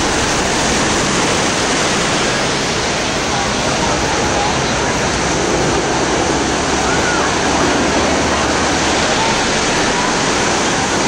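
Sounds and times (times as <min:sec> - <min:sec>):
loud rushing noise: 0:00.0 - 0:11.0.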